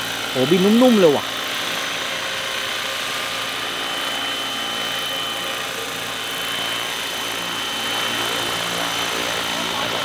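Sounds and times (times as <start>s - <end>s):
model helicopter hovering: 0.0s - 10.0s.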